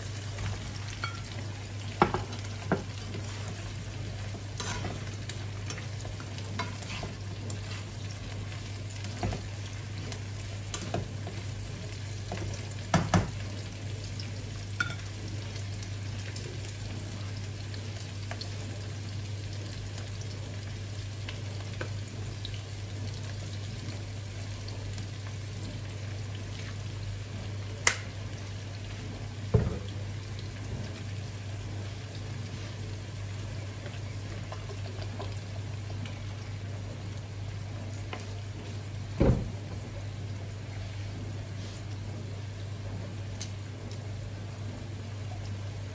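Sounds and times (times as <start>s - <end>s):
vegetables sizzling in hot oil: 0.0s - 45.9s.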